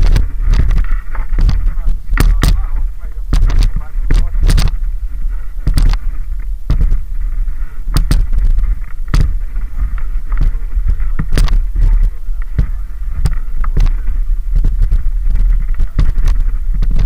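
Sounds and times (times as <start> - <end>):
bikes knocking and clattering: 0.0 - 17.0
low rumble: 0.0 - 17.0.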